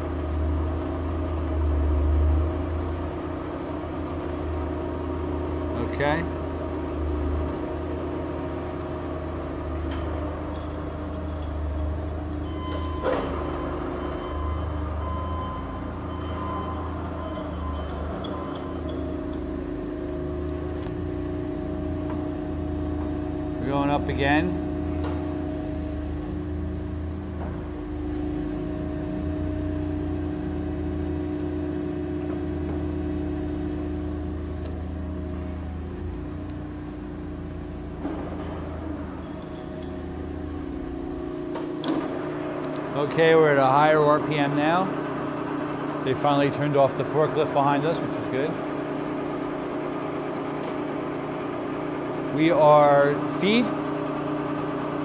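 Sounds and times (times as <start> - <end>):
forklift engine running: 0.0 - 55.0
lathe motor humming: 0.0 - 55.0.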